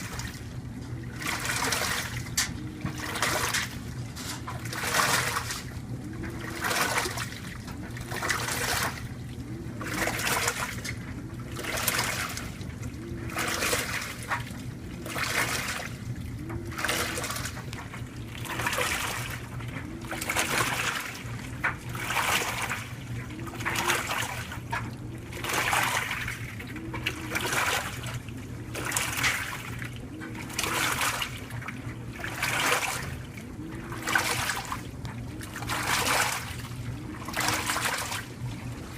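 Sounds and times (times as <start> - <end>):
washer motor whir: 0.0 - 38.9
water sloshing in washer: 0.0 - 38.9.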